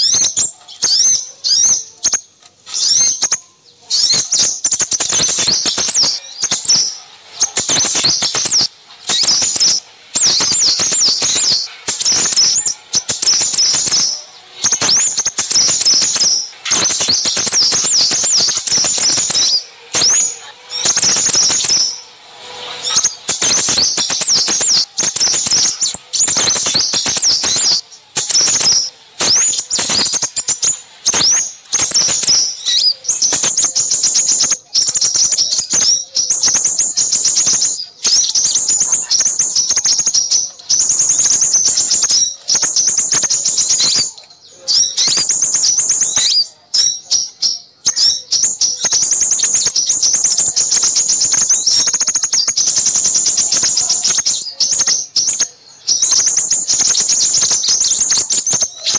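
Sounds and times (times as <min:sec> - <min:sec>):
small songbirds chirping and trilling: 0:00.0 - 0:58.9.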